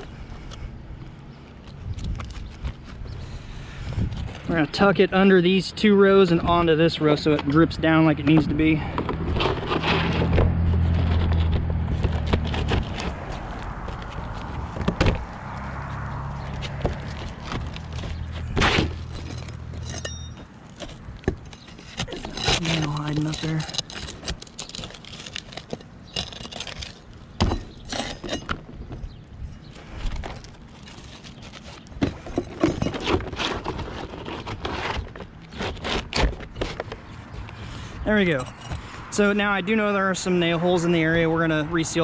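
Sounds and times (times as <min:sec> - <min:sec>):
shingles scraping and rustling: 0:04.1 - 0:39.0.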